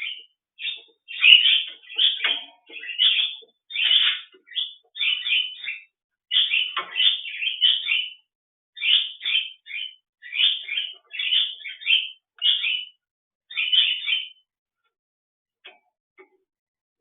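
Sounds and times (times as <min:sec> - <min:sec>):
bird chirping: 0:00.0 - 0:14.5.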